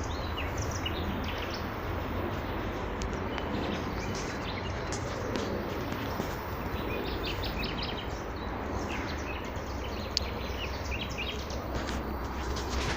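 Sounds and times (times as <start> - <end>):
small birds chirping: 0.0 - 12.9
steady background noise: 0.0 - 12.9.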